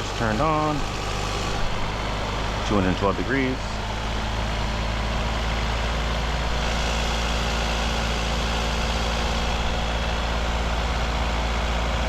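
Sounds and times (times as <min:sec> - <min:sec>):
car engine running at raised speed: 0:00.0 - 0:12.0
radiator cooling fan rushing: 0:00.0 - 0:12.0.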